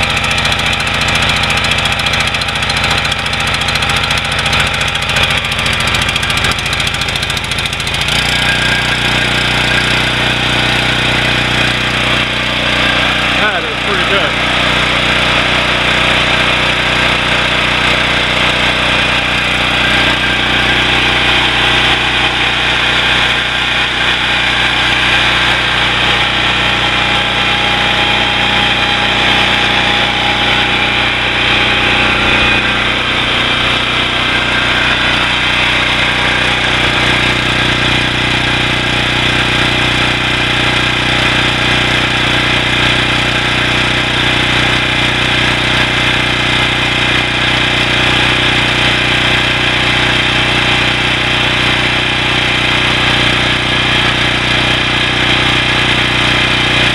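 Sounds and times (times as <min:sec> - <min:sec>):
generator engine running steadily: 0:00.0 - 0:56.9.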